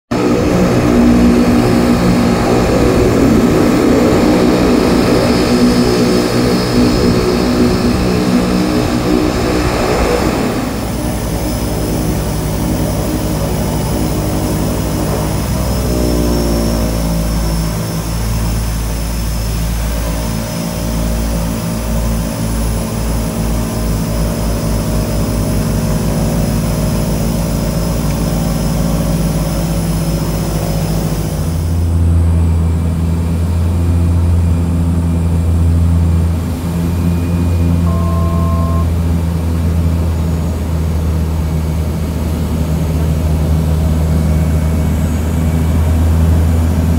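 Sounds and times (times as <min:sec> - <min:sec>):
propeller drone inside cabin: 0:00.0 - 0:46.9
turboprop engines running: 0:00.0 - 0:46.9.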